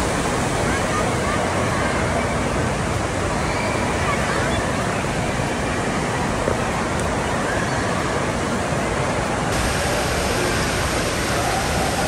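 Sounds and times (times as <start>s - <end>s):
rushing water: 0.0s - 12.0s
water churning in pool: 0.0s - 12.0s.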